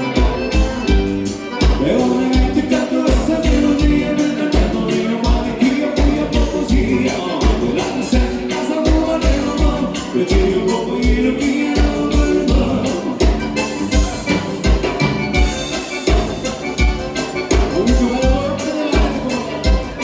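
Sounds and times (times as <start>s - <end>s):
accordion: 0.0s - 20.0s
bass: 0.0s - 20.0s
drum beat: 0.0s - 20.0s.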